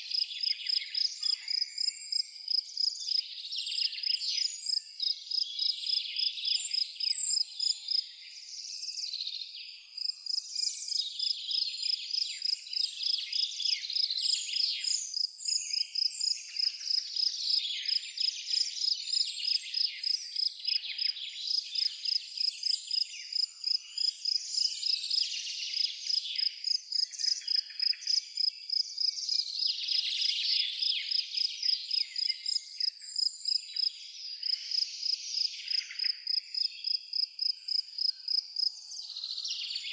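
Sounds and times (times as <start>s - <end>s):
small birds chirping: 0.0s - 39.9s
cricket chirping: 0.1s - 3.2s, 3.8s - 8.0s, 10.0s - 39.9s.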